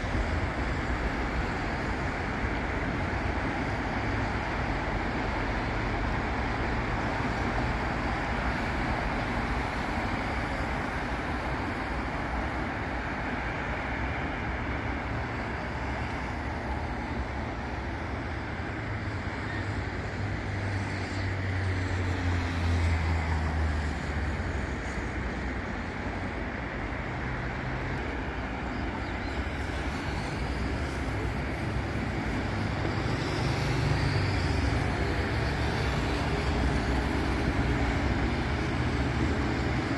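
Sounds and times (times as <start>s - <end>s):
cars and buses passing: 0.0s - 39.9s.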